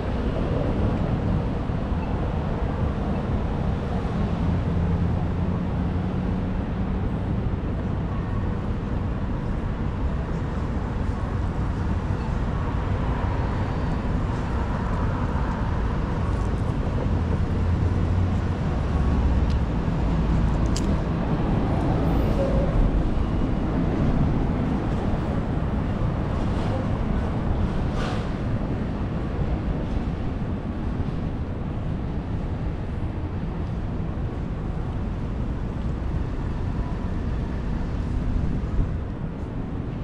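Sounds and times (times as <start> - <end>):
street traffic: 0.0 - 40.0
wind rumble on microphone: 0.0 - 40.0.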